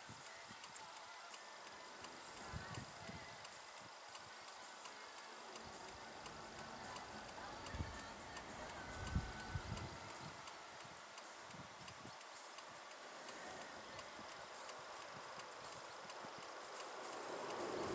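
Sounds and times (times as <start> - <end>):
light ticking: 0.0 - 17.9.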